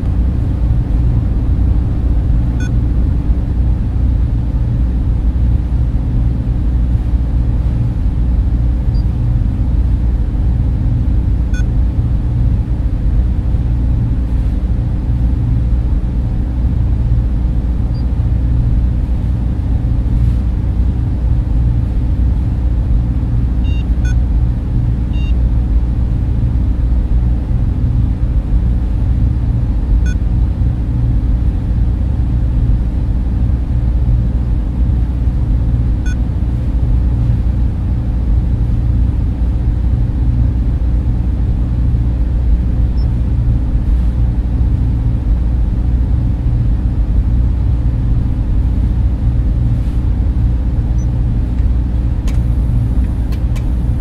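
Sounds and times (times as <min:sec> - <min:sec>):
low machinery drone: 0:00.0 - 0:54.0.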